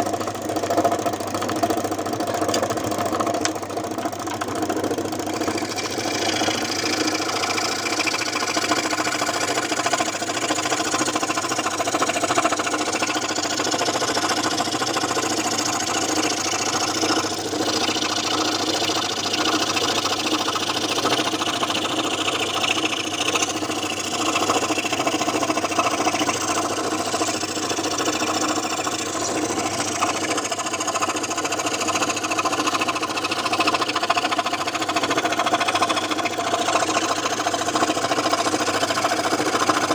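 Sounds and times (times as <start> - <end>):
scroll saw running: 0.0 - 39.9.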